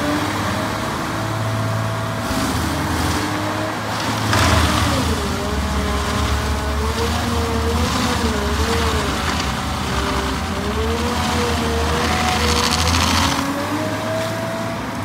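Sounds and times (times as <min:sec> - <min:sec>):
diesel engine hum: 0:00.0 - 0:15.0
stump grinder whine: 0:00.0 - 0:15.0.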